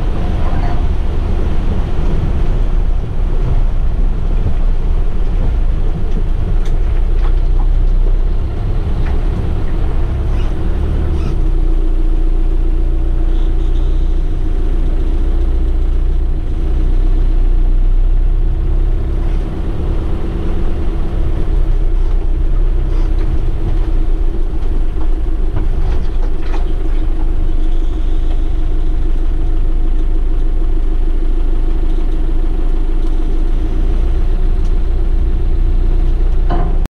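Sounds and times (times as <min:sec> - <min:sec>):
vehicle engine idling: 0:00.0 - 0:36.9.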